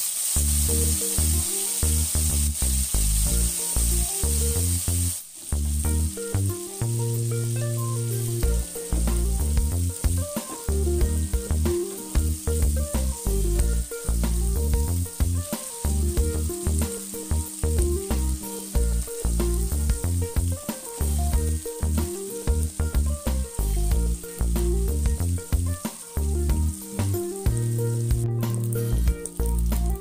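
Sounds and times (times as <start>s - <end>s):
fish sizzling in hot oil: 0.0s - 30.0s
music with heavy bass: 0.4s - 30.0s.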